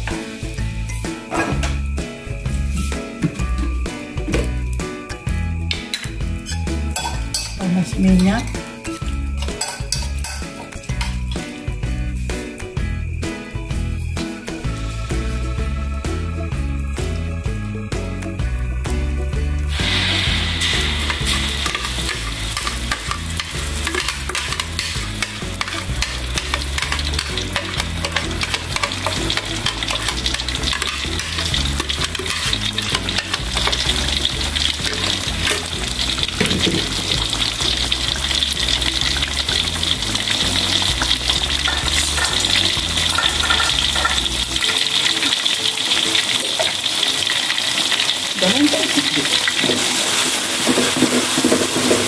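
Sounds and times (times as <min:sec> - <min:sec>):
spice paste sizzling in oil: 0:00.0 - 0:01.3, 0:04.6 - 0:13.4, 0:14.0 - 0:52.0.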